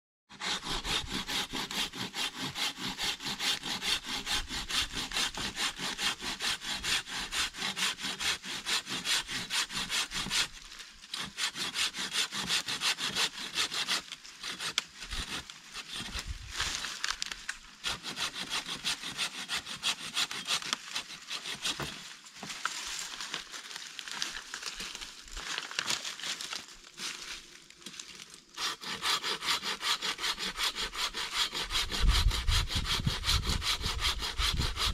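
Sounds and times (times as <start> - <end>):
hand saw cutting branch: 0.3 - 23.1, 24.1 - 34.9.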